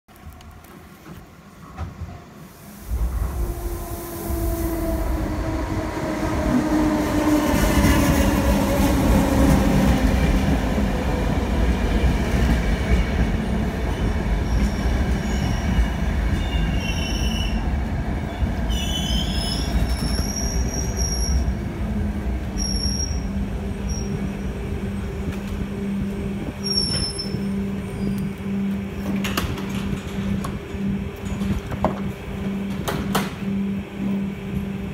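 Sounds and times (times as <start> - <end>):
heavy train rumble: 0.2 - 34.9.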